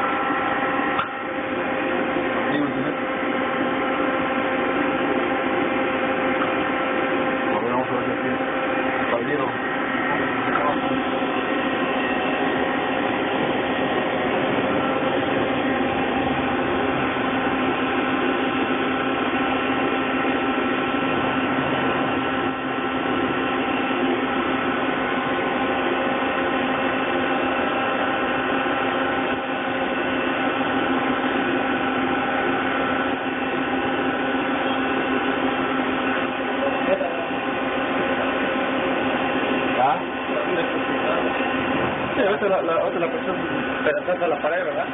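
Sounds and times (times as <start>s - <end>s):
held whining tones: 0.0s - 44.9s
lathe mechanical hum: 0.0s - 44.9s.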